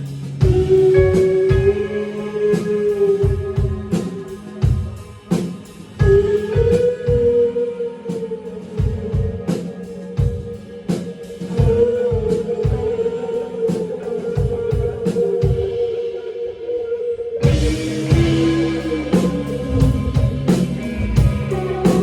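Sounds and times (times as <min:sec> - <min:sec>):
live rock band playing: 0:00.0 - 0:16.3, 0:17.4 - 0:22.0.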